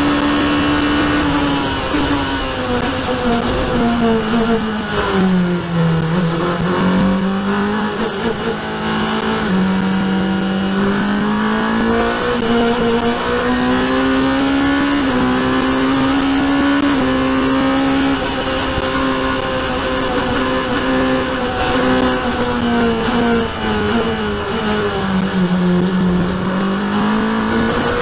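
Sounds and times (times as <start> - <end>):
race car engine accelerating: 0.0 - 28.0.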